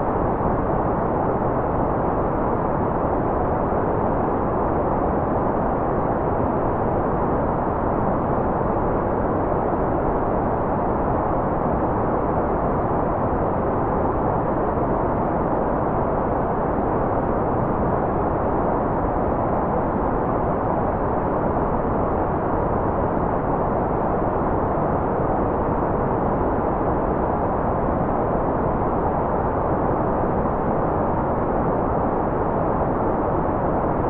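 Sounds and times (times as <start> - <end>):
muffled white noise: 0.0 - 34.0.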